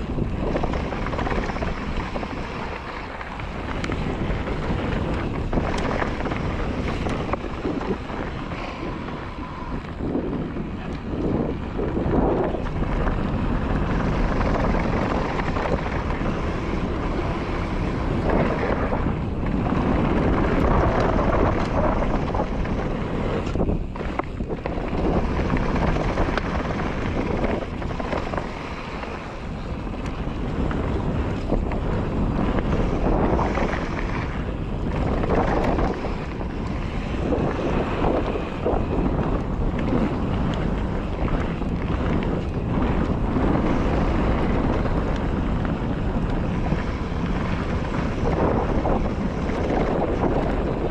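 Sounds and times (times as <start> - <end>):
mountain bike tyres on trail: 0.0 - 50.9
wind rushing over microphone: 0.0 - 50.9.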